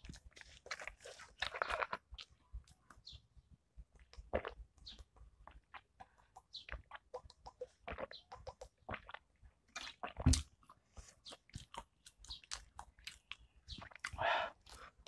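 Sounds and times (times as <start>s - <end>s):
person chewing crisps: 0.0s - 3.0s, 4.0s - 15.0s.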